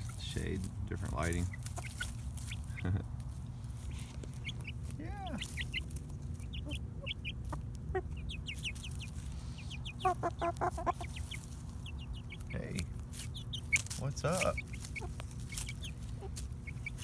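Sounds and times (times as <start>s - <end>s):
chickens clucking: 0.0s - 17.0s
chicks peeping: 0.0s - 17.0s
steady low rumble: 0.0s - 17.0s.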